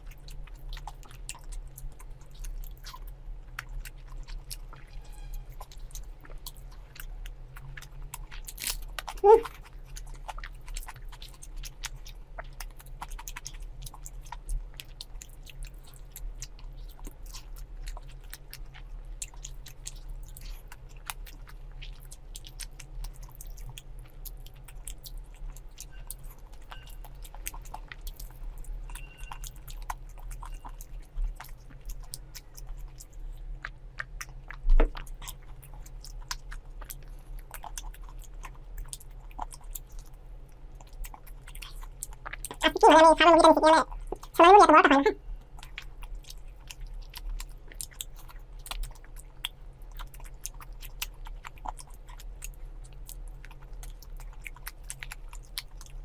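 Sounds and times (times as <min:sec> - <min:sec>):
chewing and biting food: 0:00.0 - 0:56.0.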